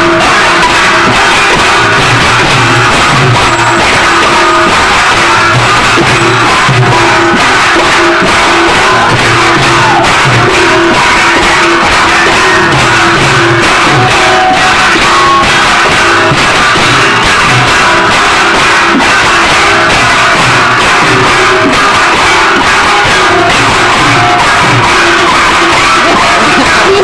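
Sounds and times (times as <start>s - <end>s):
crowd voices: 0.0s - 27.0s.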